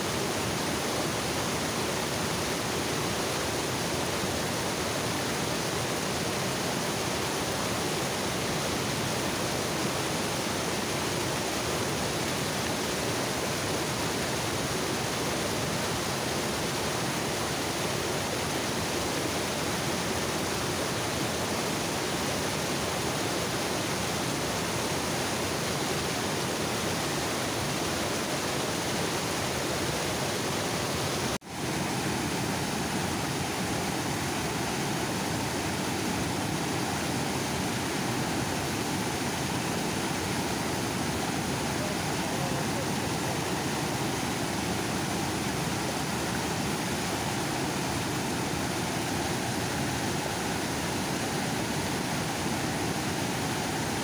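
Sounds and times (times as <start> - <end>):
water rushing over dam overflow: 0.0 - 54.0.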